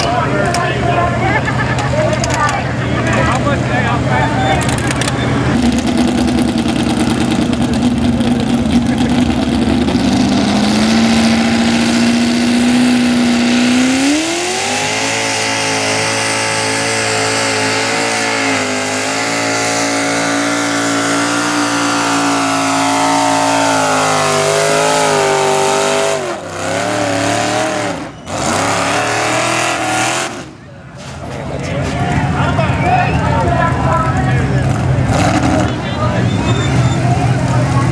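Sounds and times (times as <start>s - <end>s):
truck engine revving under load: 0.0s - 37.9s.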